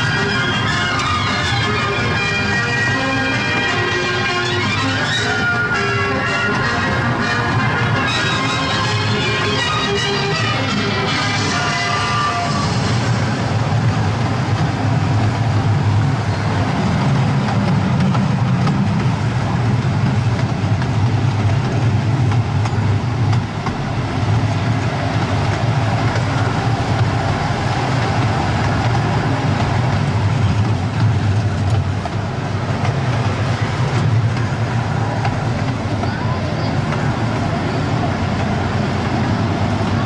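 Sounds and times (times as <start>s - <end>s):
train cars rumbling on track: 0.0s - 40.0s.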